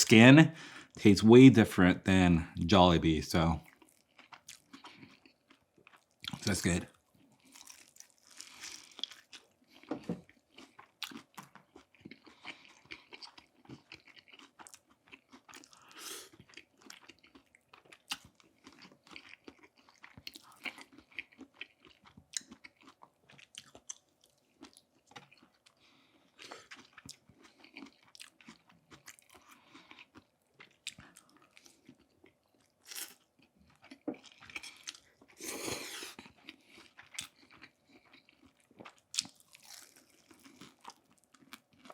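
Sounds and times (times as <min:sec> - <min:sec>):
chewing crispy fried chicken: 0:03.4 - 0:41.9.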